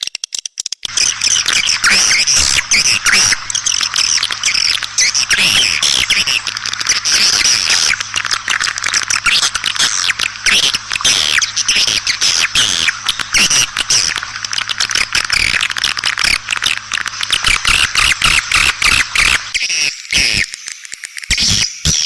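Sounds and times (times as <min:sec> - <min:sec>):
faint steady hum: 0:00.9 - 0:19.6
swiftlets twittering: 0:00.9 - 0:19.7.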